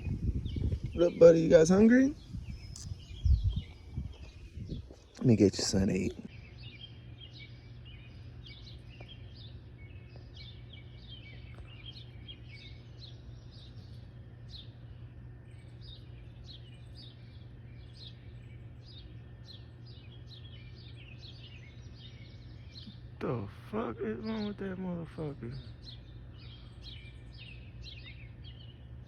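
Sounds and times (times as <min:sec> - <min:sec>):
low hum: 0:00.0 - 0:29.0
small birds chirping: 0:00.0 - 0:29.0.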